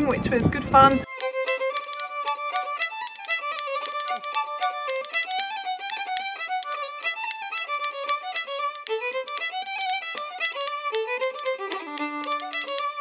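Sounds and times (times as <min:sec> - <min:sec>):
fiddle playing quick tune: 0:00.2 - 0:13.0.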